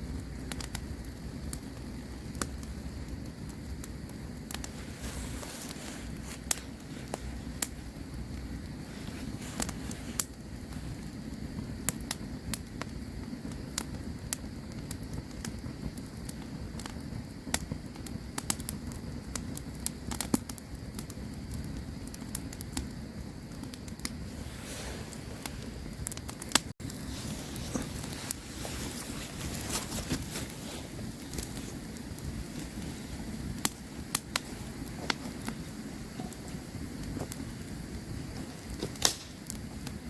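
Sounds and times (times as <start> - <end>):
campfire crackling and popping: 0.0 - 40.0.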